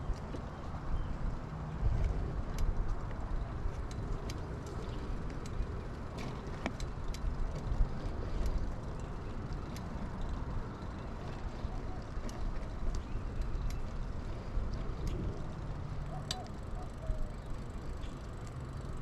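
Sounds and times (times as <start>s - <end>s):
bike clicks and rattles: 0.0s - 19.0s
wind over camera: 0.0s - 19.0s.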